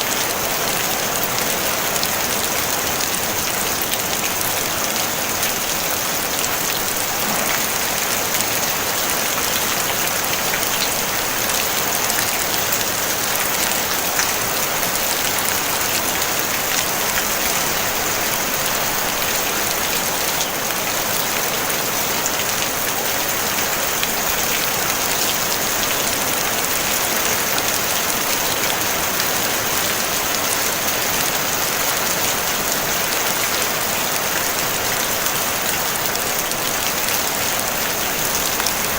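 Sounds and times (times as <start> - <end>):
rain on a tin roof: 0.0 - 38.9.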